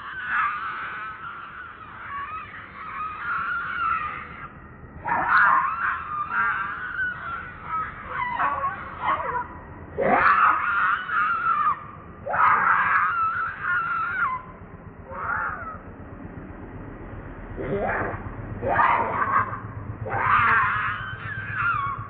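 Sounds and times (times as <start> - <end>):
baby monkey wailing: 0.0 - 15.9, 17.6 - 22.0.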